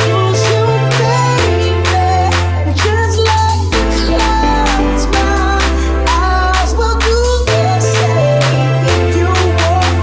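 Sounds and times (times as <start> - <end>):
house music: 0.0 - 10.0.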